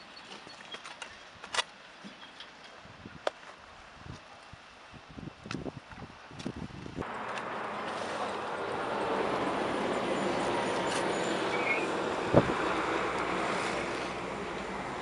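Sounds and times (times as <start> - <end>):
steady outdoor rushing noise: 3.0 - 15.0.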